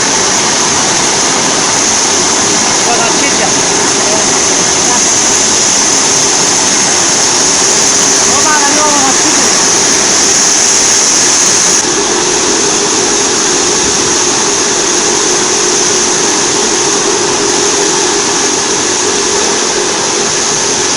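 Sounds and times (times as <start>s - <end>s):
washing machine hum and hiss: 0.0s - 20.9s.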